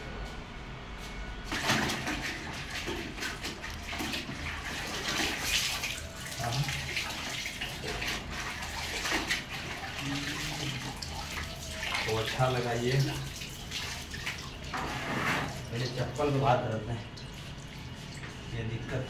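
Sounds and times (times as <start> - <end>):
cloth swishing in bucket water: 1.5 - 18.5
water pouring into bucket: 1.5 - 18.6.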